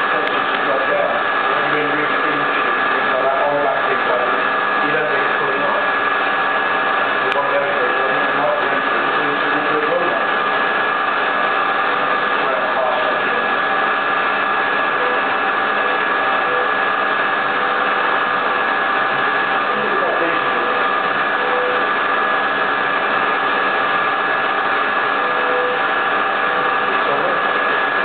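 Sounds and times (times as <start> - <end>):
milling machine spindle whining: 0.0 - 28.0.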